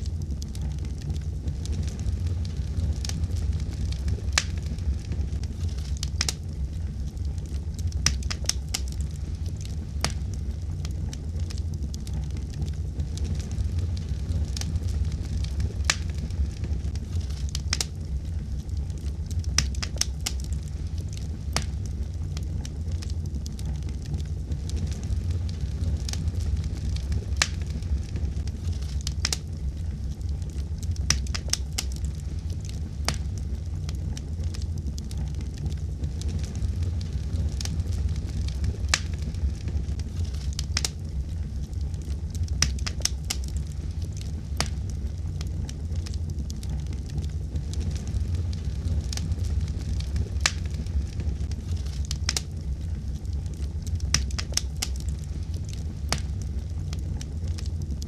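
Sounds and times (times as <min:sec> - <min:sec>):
fire crackling and popping: 0:00.0 - 0:58.0
low rumble of fire flames: 0:00.0 - 0:58.0.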